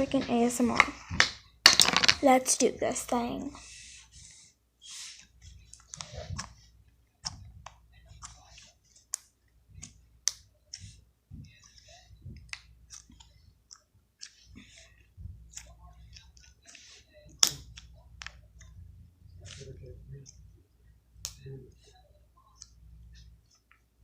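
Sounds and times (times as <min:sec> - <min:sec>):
soft crackly slime squishes: 0:03.2 - 0:24.0.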